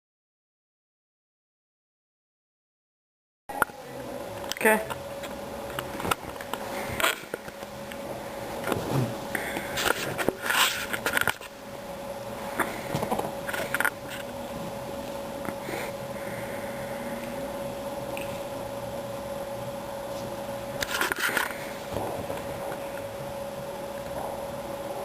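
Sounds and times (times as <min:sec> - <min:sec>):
steady electrical hum: 0:03.5 - 0:25.0.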